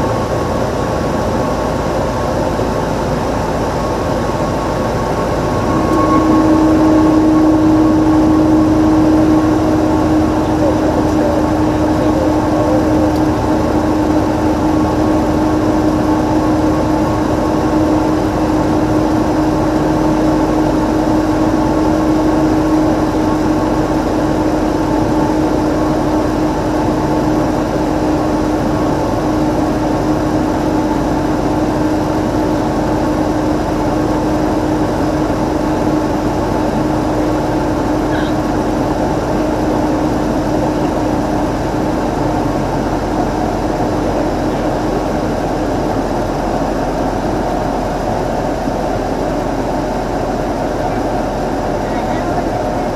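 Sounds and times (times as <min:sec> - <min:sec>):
propeller plane engine droning: 0:00.0 - 0:52.9.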